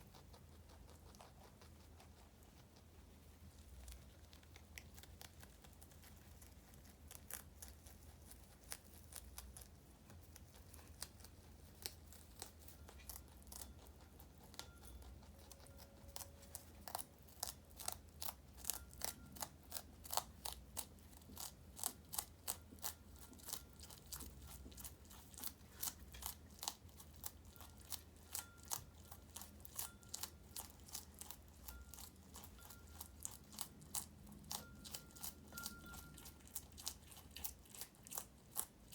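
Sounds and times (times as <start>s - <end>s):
rabbits crunching lettuce: 0.0s - 38.9s.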